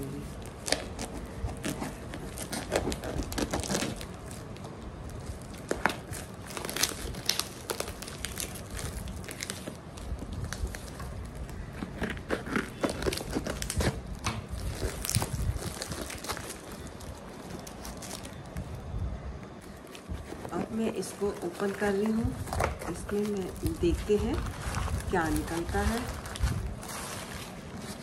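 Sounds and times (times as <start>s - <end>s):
plastic wrapping crinkling and tearing: 0.0s - 28.0s.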